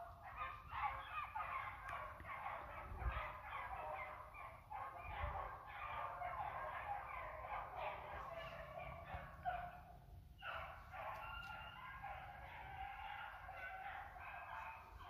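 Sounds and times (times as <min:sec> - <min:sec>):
dogs baying: 0:00.0 - 0:15.0.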